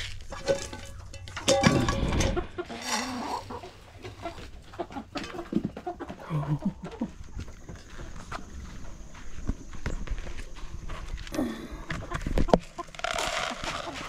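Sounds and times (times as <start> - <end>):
chickens clucking: 0.3 - 14.0.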